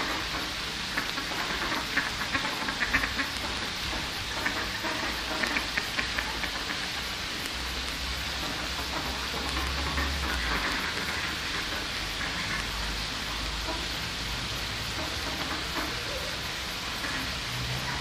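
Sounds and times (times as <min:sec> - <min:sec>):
ducks quacking: 0:00.0 - 0:07.6, 0:08.2 - 0:18.0
steady rushing hiss: 0:00.0 - 0:18.0.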